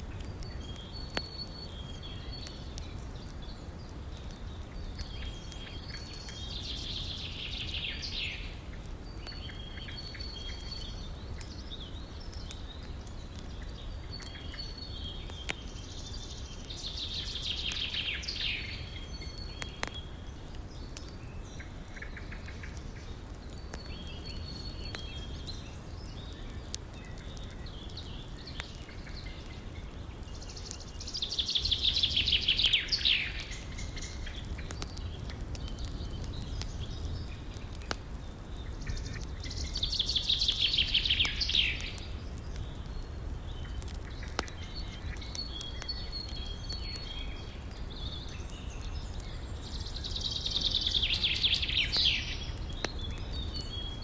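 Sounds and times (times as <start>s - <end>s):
songbirds calling: 0.0s - 54.0s
wood fire crackles: 0.0s - 54.0s.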